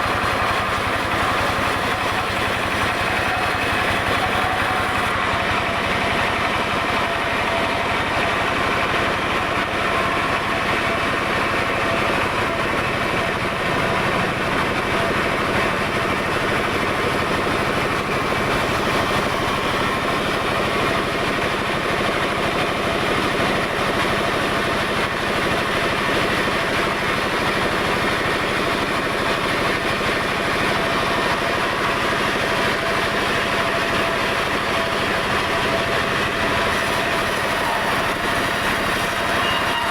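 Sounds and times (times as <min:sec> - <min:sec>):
log saw machinery droning: 0:00.0 - 0:39.9.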